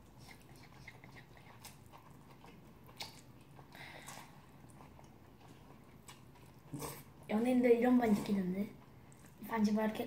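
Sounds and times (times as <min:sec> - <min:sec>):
noodle slurp: 0:00.0 - 0:07.3, 0:08.0 - 0:09.4
person chewing with smacking: 0:00.0 - 0:07.3, 0:08.0 - 0:09.4.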